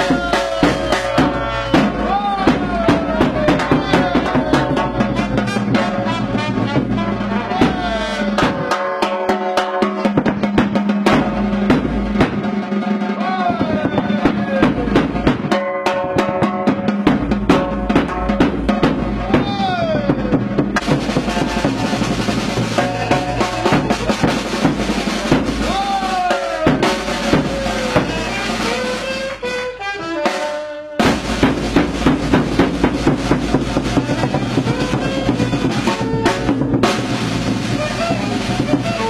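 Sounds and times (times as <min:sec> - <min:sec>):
drum-driven background music: 0:00.0 - 0:39.0.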